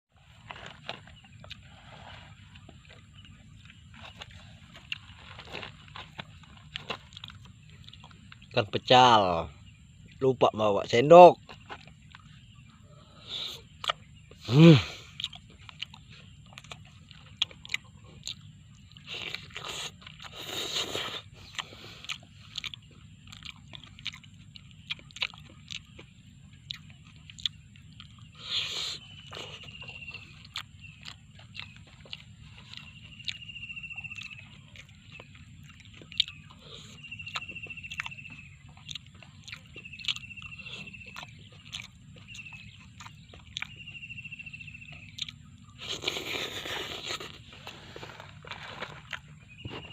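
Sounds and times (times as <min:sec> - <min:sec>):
person chewing crunchy food: 0:00.1 - 0:49.9.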